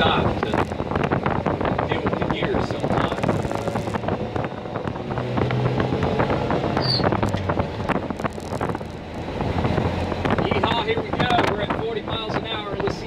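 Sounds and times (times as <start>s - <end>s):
pickup truck engine running: 0.0s - 13.0s
wind noise on microphone: 0.0s - 13.0s.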